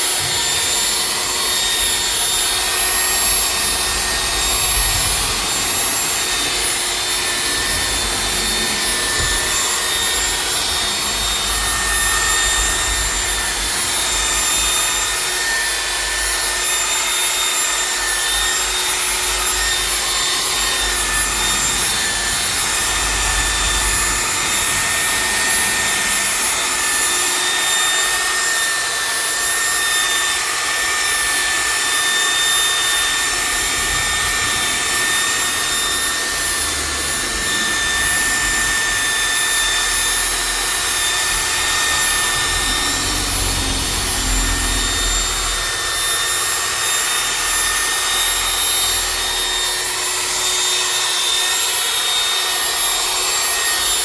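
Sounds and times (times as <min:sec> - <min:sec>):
machine polisher motor whine: 0:00.0 - 0:54.0.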